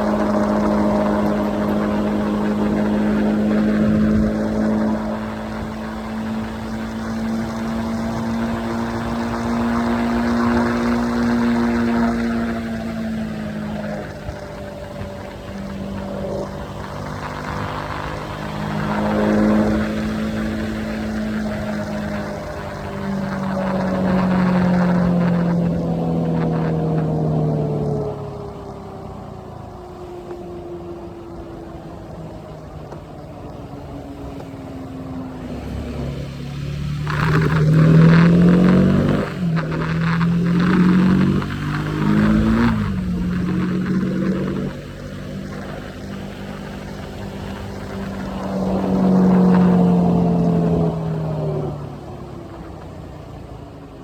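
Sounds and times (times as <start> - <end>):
wind noise: 0.0 - 52.8
motorcycle engine cruising: 0.0 - 54.0
road noise: 0.0 - 54.0.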